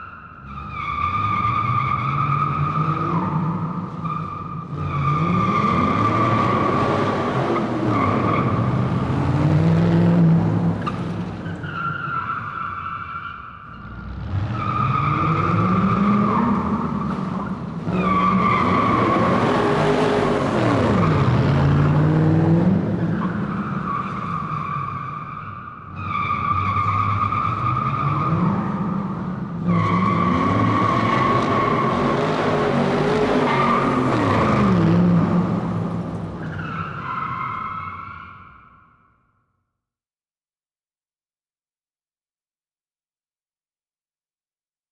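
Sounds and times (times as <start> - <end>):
car tyres squealing: 0.0 - 22.2, 22.8 - 39.1.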